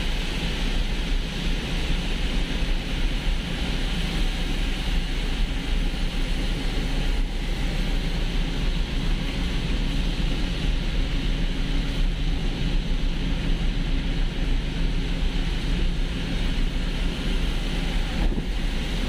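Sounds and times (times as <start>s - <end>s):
car engine hum: 0.0s - 19.0s
tyres hissing on wet road: 0.0s - 19.0s.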